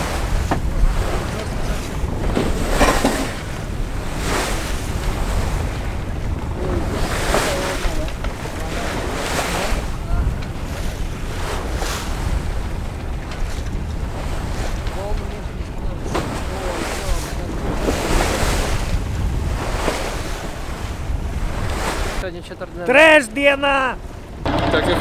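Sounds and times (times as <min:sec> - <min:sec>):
bow wave splashing against hull: 0:00.0 - 0:22.2
wind buffeting microphone: 0:00.0 - 0:25.0.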